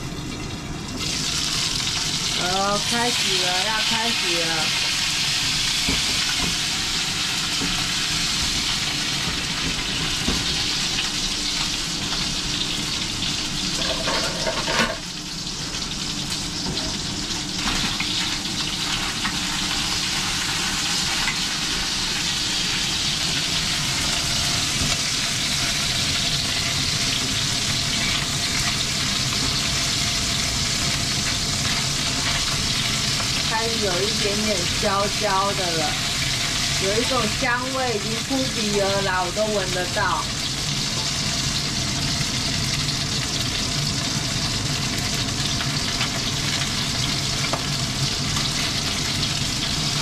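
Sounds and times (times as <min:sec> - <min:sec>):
chicken wings sizzling in hot oil: 0:00.0 - 0:50.0.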